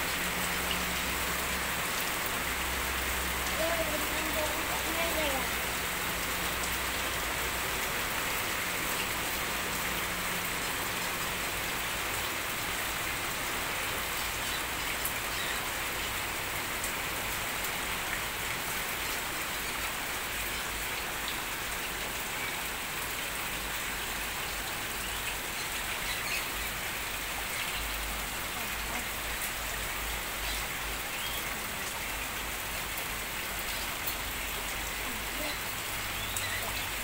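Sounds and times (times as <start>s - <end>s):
falling water patter: 0.0s - 37.0s
small water drips: 0.0s - 37.0s.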